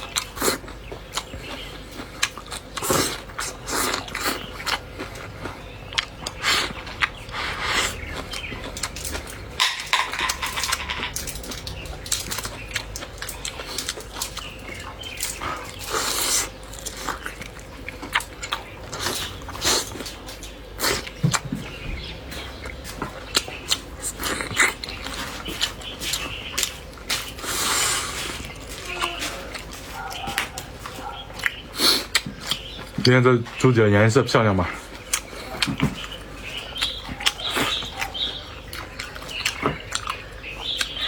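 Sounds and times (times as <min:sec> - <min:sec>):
chewing and lip-smacking: 0:00.0 - 0:33.6, 0:34.7 - 0:41.0.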